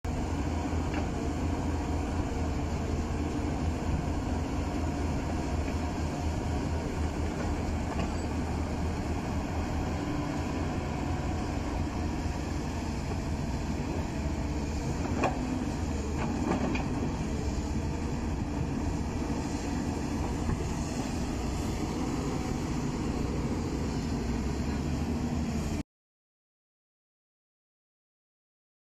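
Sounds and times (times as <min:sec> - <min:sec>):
excavator machine rumble: 0:00.1 - 0:25.8.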